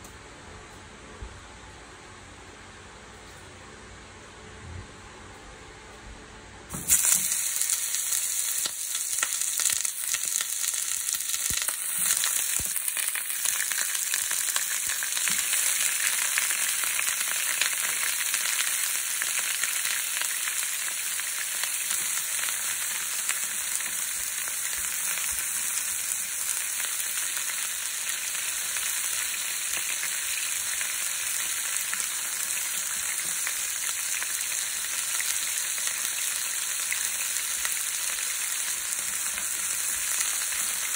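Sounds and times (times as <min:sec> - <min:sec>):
chicken sizzling in frying pan: 0:06.7 - 0:40.9.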